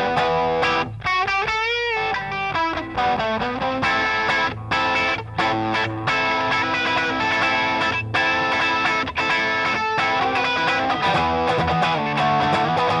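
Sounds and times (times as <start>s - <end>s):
overdriven electric guitar chords: 0.0s - 13.0s.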